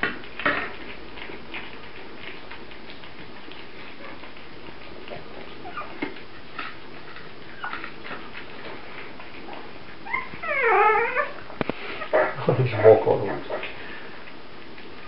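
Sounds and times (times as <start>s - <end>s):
puppy whining: 0.7s - 15.0s.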